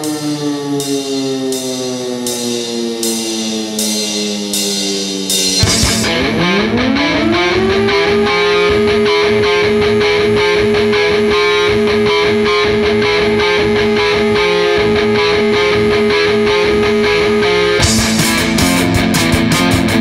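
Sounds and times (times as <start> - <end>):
wailing siren-like tone: 0.0 - 18.9
rock band playing: 0.8 - 20.0.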